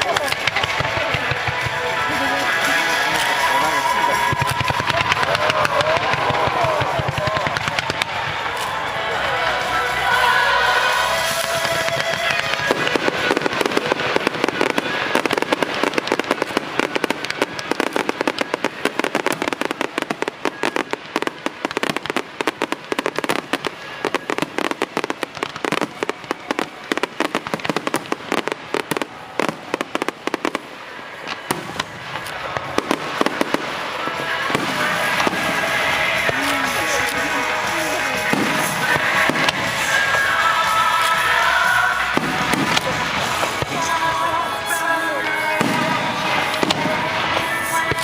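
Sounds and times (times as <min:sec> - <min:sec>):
background music: 0:00.0 - 0:48.0
fireworks crackling: 0:00.0 - 0:48.0.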